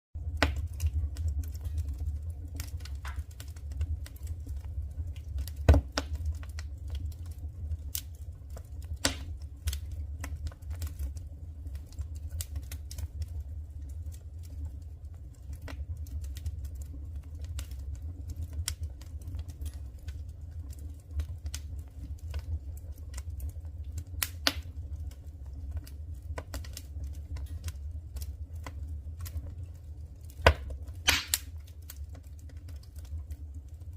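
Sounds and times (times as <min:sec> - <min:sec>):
firewood crackling in a stove: 0:00.2 - 0:33.9.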